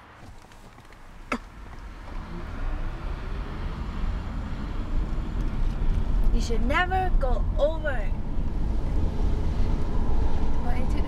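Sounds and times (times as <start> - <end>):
road and tyre noise: 0.0 - 11.0.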